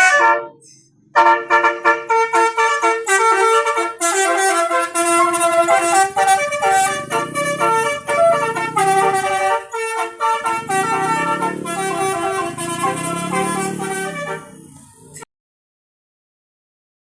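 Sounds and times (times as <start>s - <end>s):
multi-tone vehicle horn melody: 0.0s - 15.2s.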